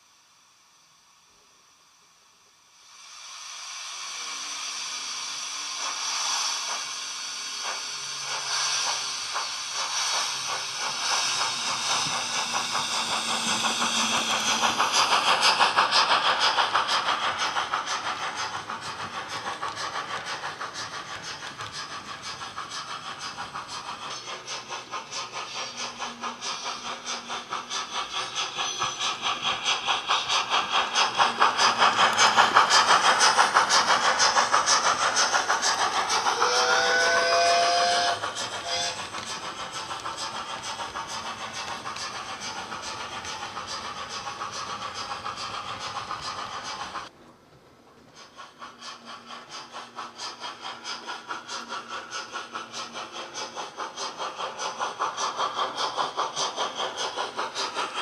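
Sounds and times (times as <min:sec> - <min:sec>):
steam hiss: 0:00.0 - 0:58.0
steam locomotive exhaust beats: 0:00.0 - 0:58.0.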